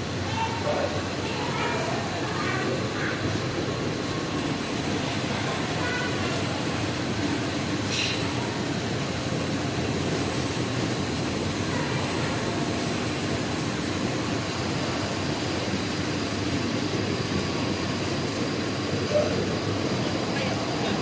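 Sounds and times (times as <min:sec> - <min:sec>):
cleaning machine running: 0:00.0 - 0:21.0.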